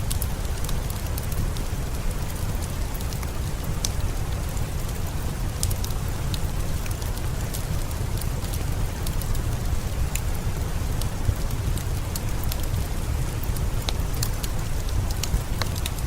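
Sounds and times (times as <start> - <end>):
steady rain falling: 0.0 - 16.0
wood fire crackling: 0.0 - 16.0.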